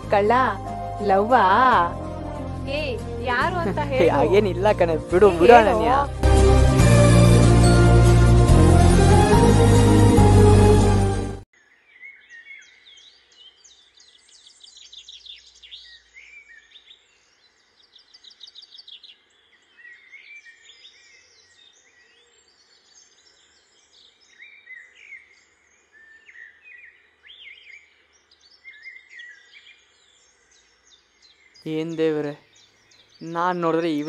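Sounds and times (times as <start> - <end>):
birds chirping: 0.0 - 6.2, 11.6 - 34.0.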